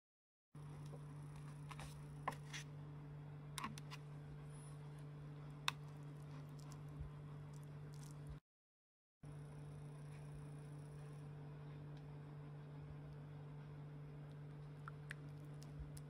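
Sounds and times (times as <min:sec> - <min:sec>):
faint low hum: 0:00.6 - 0:08.4, 0:09.2 - 0:16.0.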